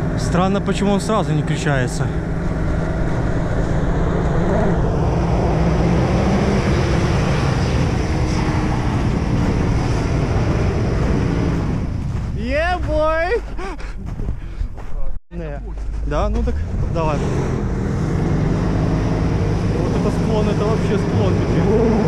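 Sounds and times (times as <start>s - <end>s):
suv engine running hard: 0.0s - 13.6s, 15.8s - 22.0s
tyres churning through snow: 0.0s - 22.0s.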